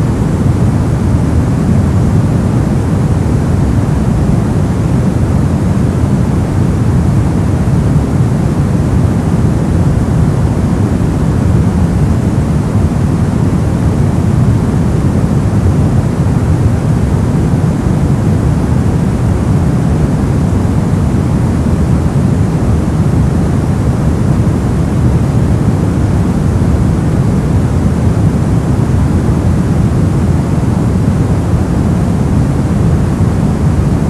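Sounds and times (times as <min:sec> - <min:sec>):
brown noise: 0:00.0 - 0:34.0.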